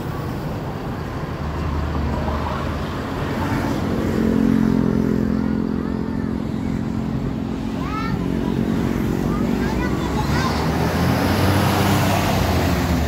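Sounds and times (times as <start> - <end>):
vehicle engine passing: 2.2 - 13.0.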